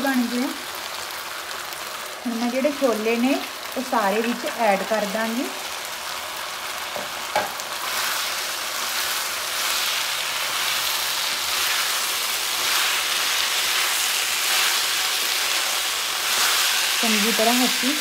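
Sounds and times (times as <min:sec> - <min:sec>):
chickpeas sizzling in pan: 0:00.0 - 0:18.0.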